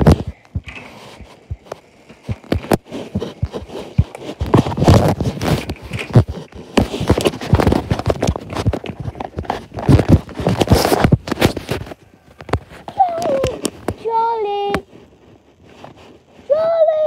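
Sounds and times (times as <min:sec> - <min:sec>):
phone knocking and rubbing: 0:00.0 - 0:16.0
footsteps: 0:00.0 - 0:16.7.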